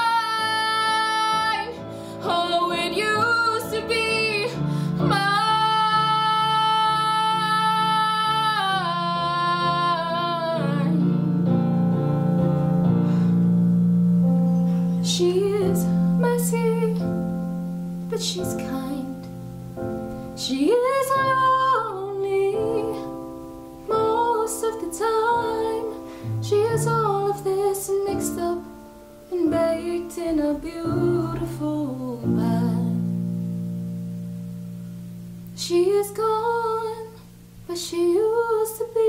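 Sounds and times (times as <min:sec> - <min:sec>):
woman singing: 0:00.0 - 0:11.6, 0:15.0 - 0:19.4, 0:20.4 - 0:23.2, 0:23.8 - 0:33.3, 0:35.5 - 0:39.0
soft instrumental accompaniment: 0:00.0 - 0:39.0.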